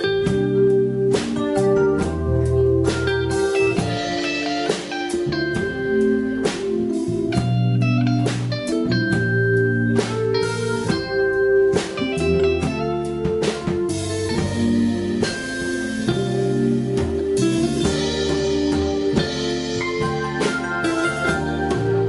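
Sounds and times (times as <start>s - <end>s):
drum kit: 0.0s - 22.0s
guitar melody: 0.0s - 22.0s
sustained bass notes: 0.0s - 22.0s.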